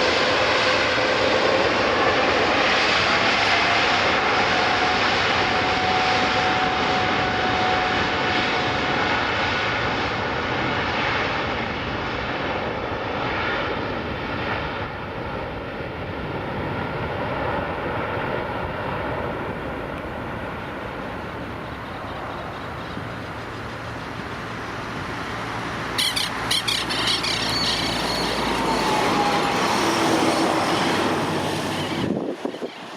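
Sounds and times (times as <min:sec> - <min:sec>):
jet engines at takeoff thrust: 0:00.0 - 0:32.9.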